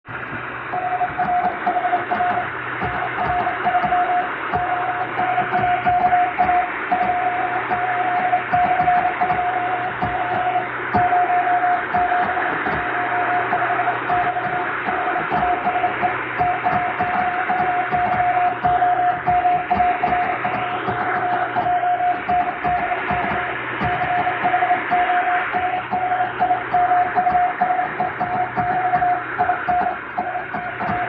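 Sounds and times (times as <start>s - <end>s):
low hum: 0.1s - 31.0s
shortwave hiss and static: 0.1s - 31.0s
morse code tone: 0.7s - 31.0s.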